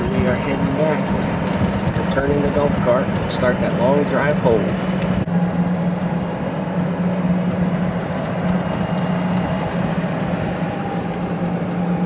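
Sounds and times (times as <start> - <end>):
golf cart driving hum: 0.0 - 12.0
road and wind noise: 0.0 - 12.0.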